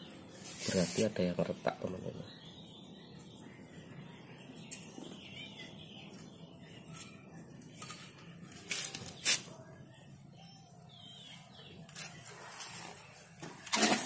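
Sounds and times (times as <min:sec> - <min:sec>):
faint bird chirps: 0:00.0 - 0:13.2.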